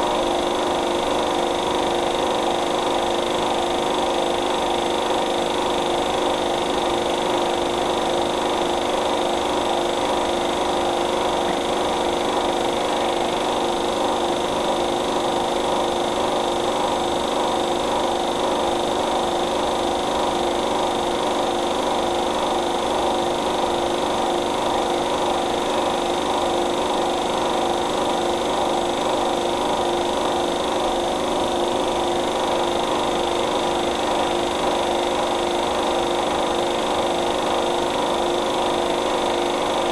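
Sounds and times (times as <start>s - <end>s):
mechanical hum with hiss: 0.0s - 39.9s.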